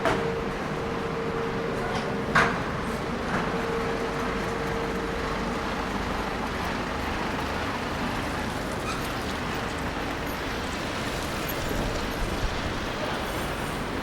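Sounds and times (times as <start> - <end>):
traffic on wet road: 1.9 - 14.0.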